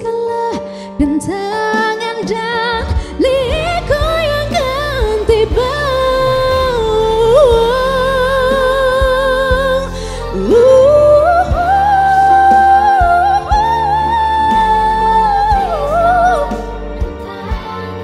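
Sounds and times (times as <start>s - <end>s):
band accompaniment: 0.0s - 18.0s.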